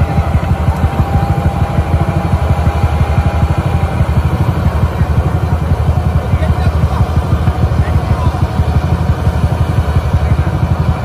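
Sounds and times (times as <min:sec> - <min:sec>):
combine harvester engine running: 0:00.0 - 0:11.0.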